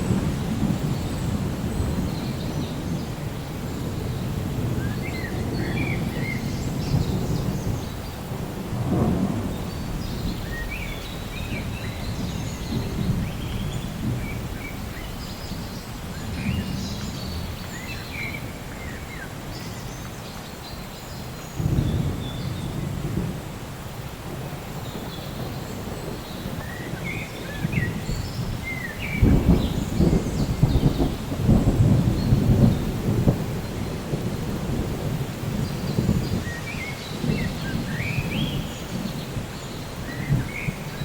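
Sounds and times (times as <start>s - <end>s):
rolling thunder rumbling: 0.0s - 19.9s, 21.5s - 41.0s
steady rain: 0.0s - 41.0s.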